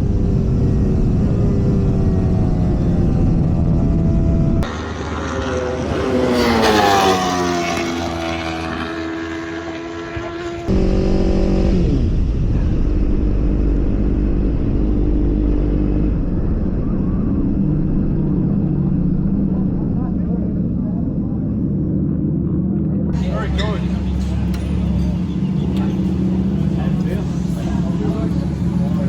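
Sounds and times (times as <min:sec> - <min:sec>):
low rumble: 0:00.0 - 0:05.0, 0:10.6 - 0:29.0
racing motorcycle engine: 0:00.0 - 0:29.0.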